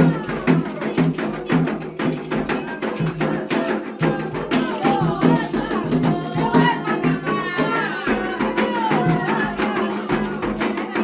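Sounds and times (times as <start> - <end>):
drums in a quick rhythm: 0.0 - 11.0
rattle and wood block percussion: 0.0 - 11.0
voices singing: 0.0 - 11.0.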